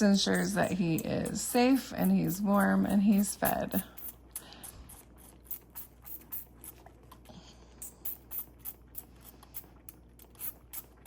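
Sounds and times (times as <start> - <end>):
goat kid suckling bottle: 0.0 - 11.0.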